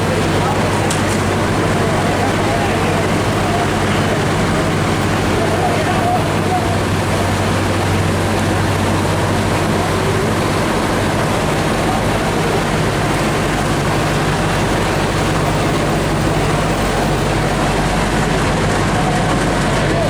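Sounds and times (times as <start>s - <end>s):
engine running steadily: 0.0s - 20.0s
loud rushing noise: 0.0s - 20.0s.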